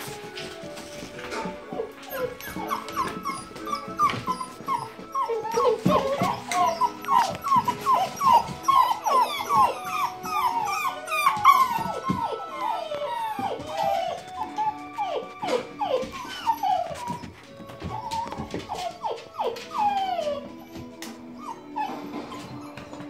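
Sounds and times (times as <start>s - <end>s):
puppies whining and yipping: 0.0s - 23.0s.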